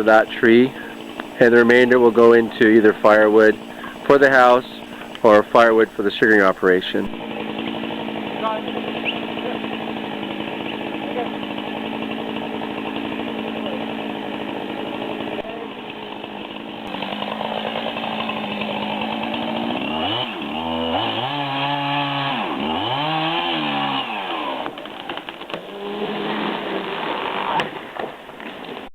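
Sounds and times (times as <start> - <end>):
chainsaw cutting tree: 0.0 - 28.9.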